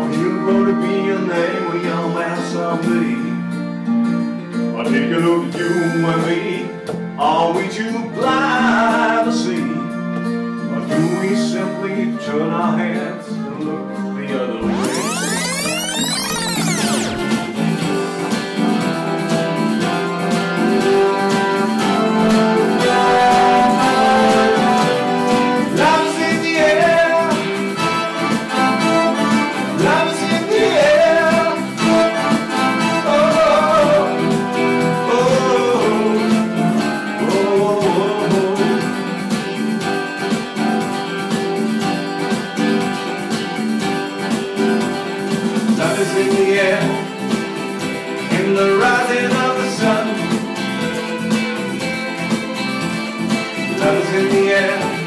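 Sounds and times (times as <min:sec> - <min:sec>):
band music with guitar and keyboard: 0:00.0 - 0:55.0.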